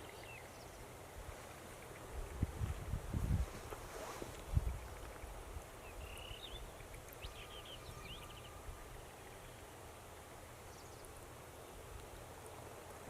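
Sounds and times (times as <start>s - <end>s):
faint low outdoor rumble: 0.0s - 13.0s
songbird singing: 0.0s - 13.0s.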